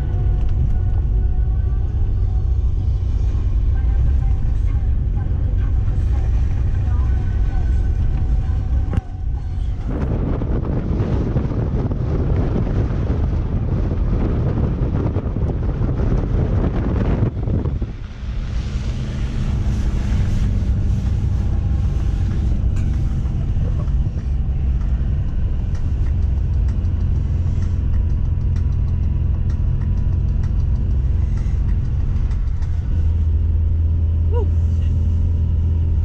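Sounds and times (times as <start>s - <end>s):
vehicle engine and tyres rumbling: 0.0s - 36.0s.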